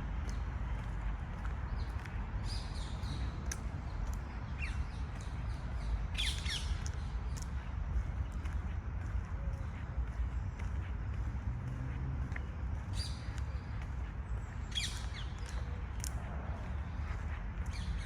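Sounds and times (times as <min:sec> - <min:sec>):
city background rumble: 0:00.0 - 0:18.0.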